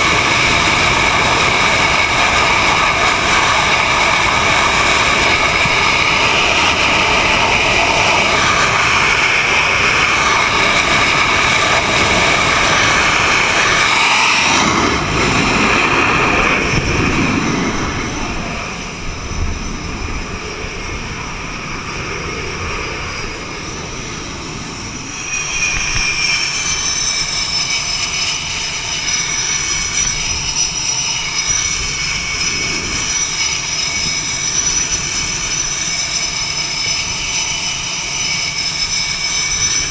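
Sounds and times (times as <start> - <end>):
jet engine high whine: 0.0 - 39.9
jet engines at full power: 0.0 - 39.9.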